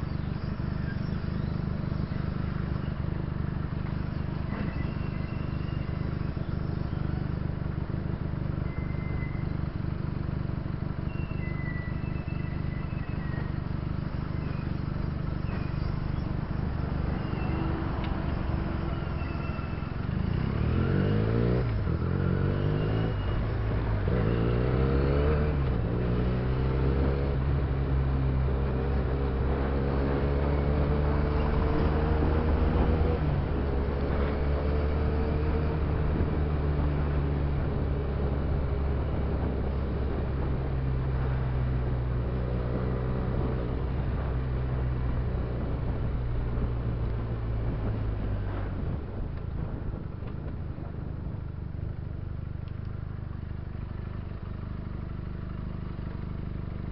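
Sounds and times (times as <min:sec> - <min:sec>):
wind and road noise: 0:00.0 - 0:56.9
motorcycle engine revving: 0:03.5 - 0:50.9.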